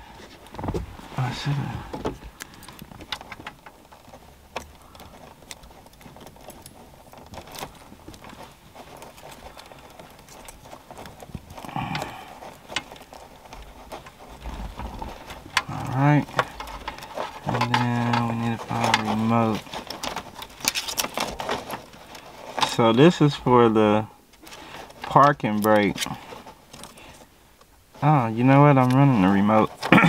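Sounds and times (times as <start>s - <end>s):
wires clicking and rustling: 0.0s - 30.0s.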